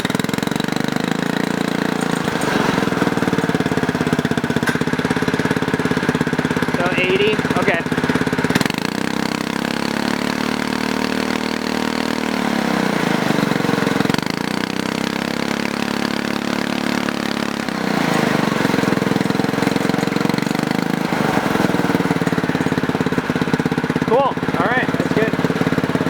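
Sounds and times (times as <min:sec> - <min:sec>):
go-kart engine revving: 0:00.0 - 0:26.0.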